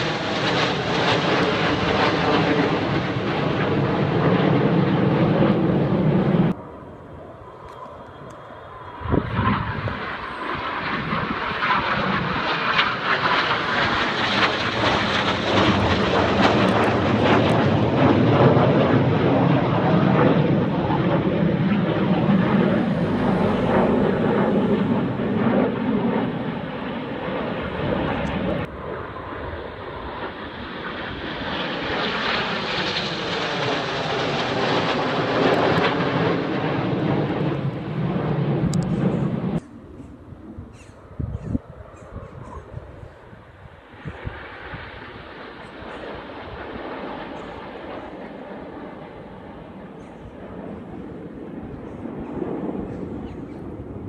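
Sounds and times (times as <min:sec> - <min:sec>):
jets flying past overhead: 0:00.0 - 0:54.0.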